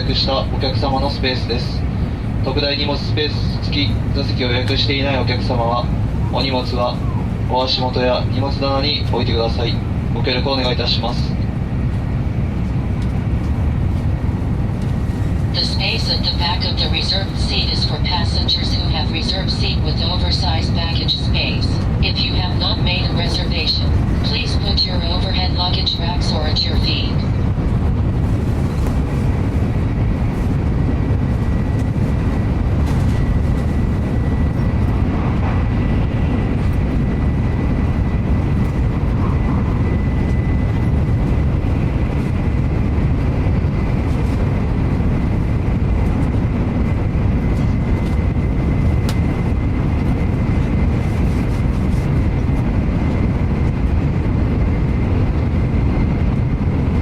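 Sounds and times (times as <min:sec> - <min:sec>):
train interior rumble and rushing: 0:00.0 - 0:57.0.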